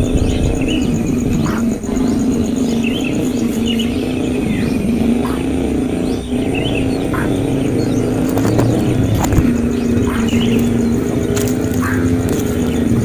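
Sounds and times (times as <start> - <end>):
high bird chirps: 0.0 - 13.0
steady low hum: 0.0 - 13.0.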